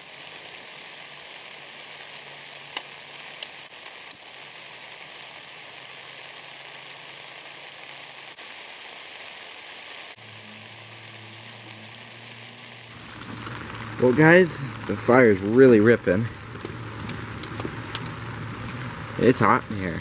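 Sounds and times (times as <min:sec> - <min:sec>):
rain falling on a tent: 0:00.0 - 0:20.0.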